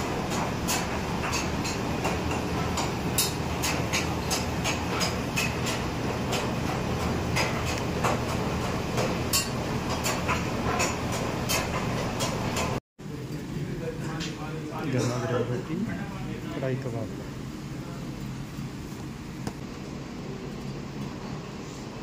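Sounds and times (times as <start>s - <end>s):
gas burners and extractor roaring: 0.0s - 22.0s.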